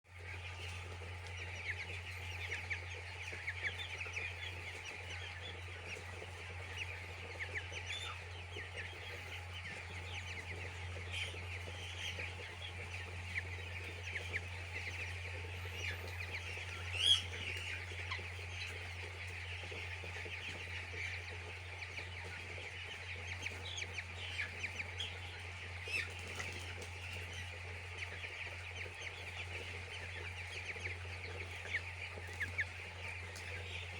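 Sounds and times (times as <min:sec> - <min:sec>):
chicks peeping: 0:00.1 - 0:33.9
steady low hum: 0:00.2 - 0:33.9.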